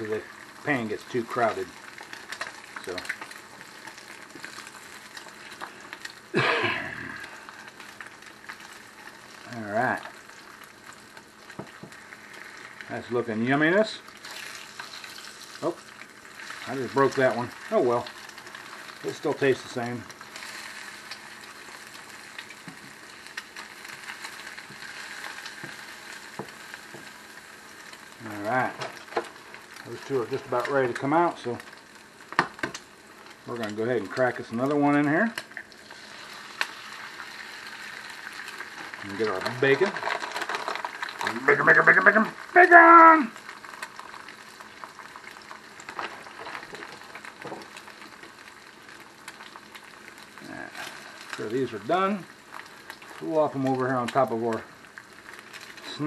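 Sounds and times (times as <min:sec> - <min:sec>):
crackles and pops of frying: 0:00.0 - 0:56.0
eggs sizzling in oil: 0:00.0 - 0:56.0.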